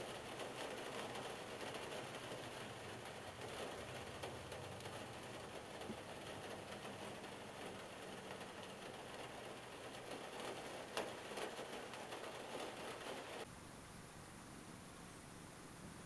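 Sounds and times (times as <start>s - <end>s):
rain on car roof: 0.0s - 13.5s.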